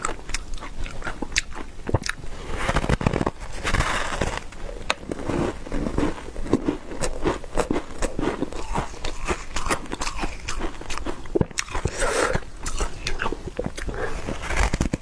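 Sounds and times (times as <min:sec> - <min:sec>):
chewing crunchy ice: 0:00.0 - 0:02.3, 0:04.9 - 0:15.0.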